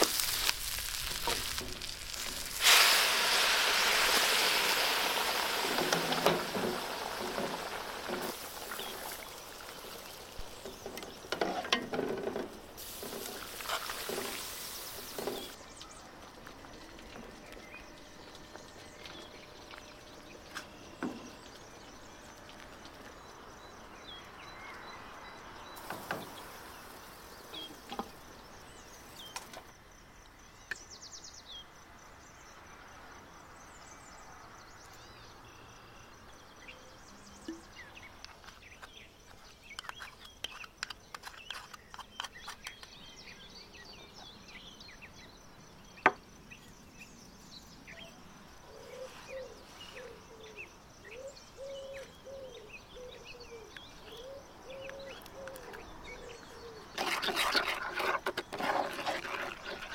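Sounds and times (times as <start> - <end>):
birds chirping: 0.0 - 29.7, 34.8 - 59.9.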